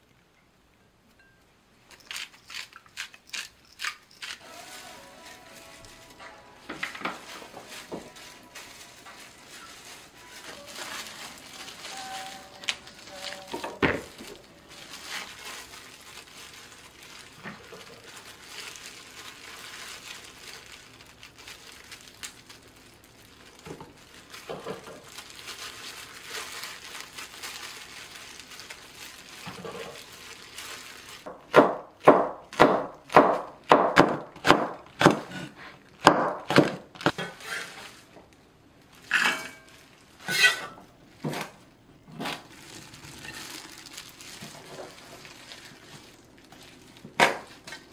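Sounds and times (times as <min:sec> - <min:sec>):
faint rustling and handling noise: 0:00.0 - 0:31.3, 0:36.9 - 0:47.9.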